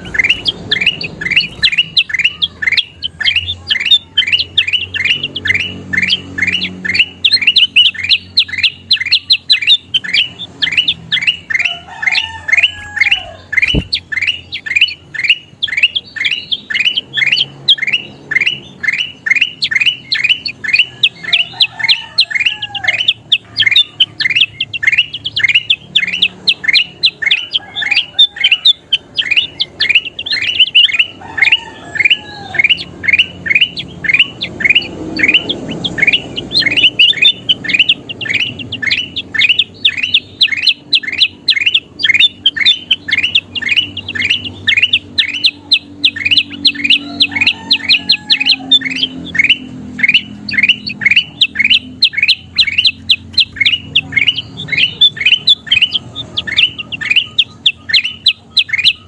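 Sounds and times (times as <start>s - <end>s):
bulbul singing sharp chirps: 0.0s - 59.0s.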